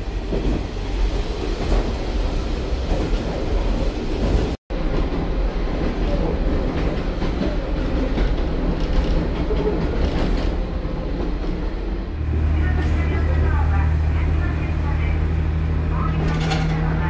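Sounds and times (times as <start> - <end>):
railcar engine rumble: 0.0 - 17.0.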